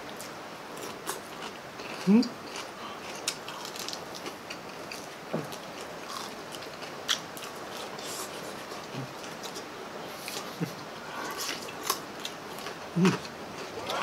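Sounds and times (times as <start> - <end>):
chewing: 0.1 - 14.0.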